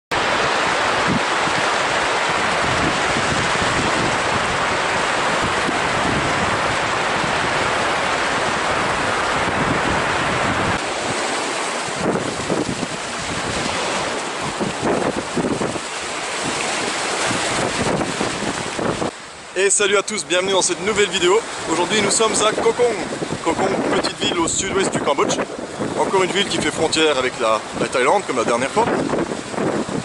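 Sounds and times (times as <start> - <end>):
wind buffeting microphone: 0.1 - 19.5, 20.2 - 30.0
surf breaking on beach: 0.1 - 30.0.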